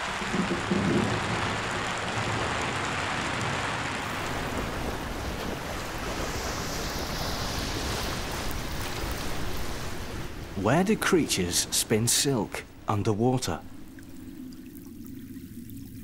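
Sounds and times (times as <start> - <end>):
stream rushing over stones: 0.0 - 14.7
rain pattering on water: 0.0 - 16.0.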